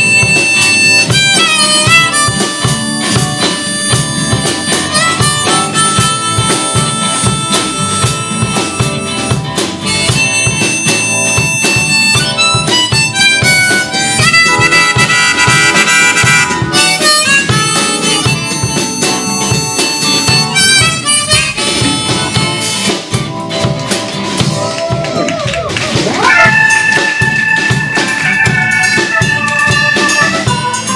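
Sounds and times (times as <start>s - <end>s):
bending lead guitar line: 0.0s - 30.9s
blues band playing: 0.0s - 30.9s.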